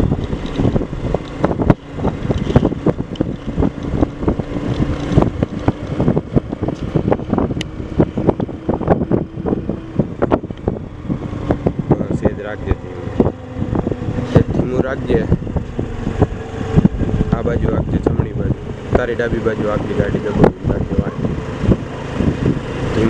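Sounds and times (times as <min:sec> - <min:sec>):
steady low hum: 0:00.0 - 0:23.0
wind buffeting microphone: 0:00.0 - 0:23.0.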